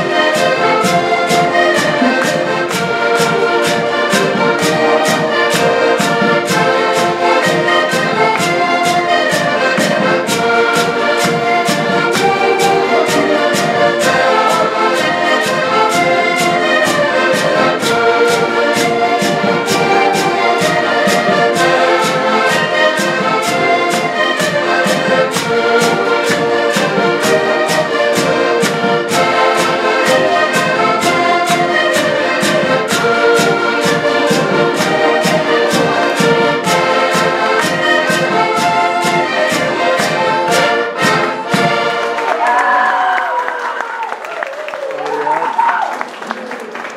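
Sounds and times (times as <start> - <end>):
button accordions playing a tune: 0.0 - 42.5.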